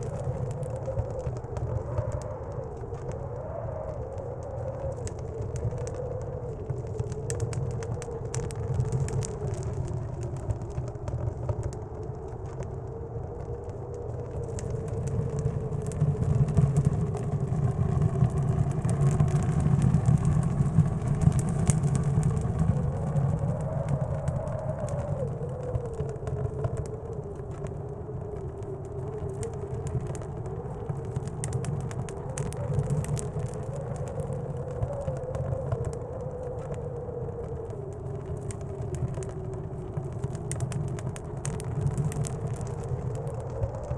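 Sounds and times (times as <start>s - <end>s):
howling blizzard wind: 0.0s - 43.9s
wood stove fire crackling: 0.0s - 43.9s.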